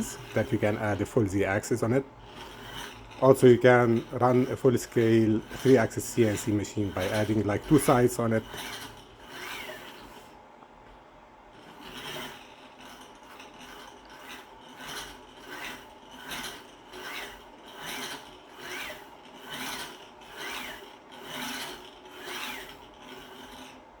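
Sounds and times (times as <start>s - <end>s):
gear teeth rasping: 0.0s - 10.4s, 11.5s - 23.8s
linear actuator motor whine: 0.0s - 24.0s.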